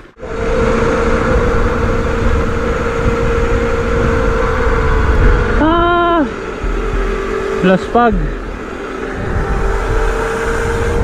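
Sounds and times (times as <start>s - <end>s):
low rumble: 0.0s - 11.0s
motorcycle engine running: 0.0s - 11.0s.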